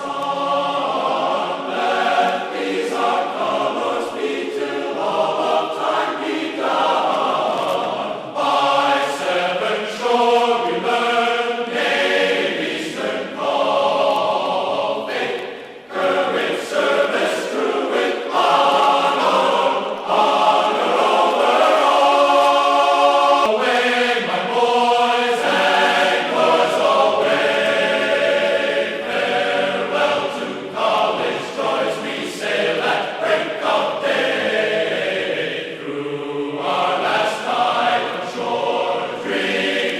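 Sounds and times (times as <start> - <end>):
music with choir singing: 0.0 - 39.9.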